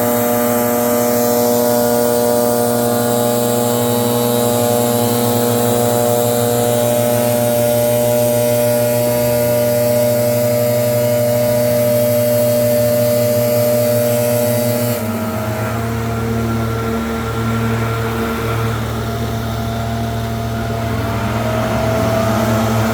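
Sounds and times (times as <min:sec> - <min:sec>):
leaf blower engine running: 0:00.0 - 0:22.9.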